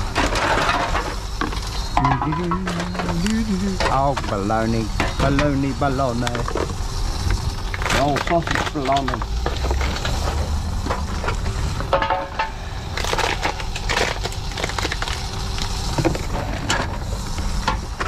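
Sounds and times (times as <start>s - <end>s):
cans and bottles being crushed: 0.0s - 5.6s, 6.2s - 18.0s
machine low hum: 0.0s - 18.0s.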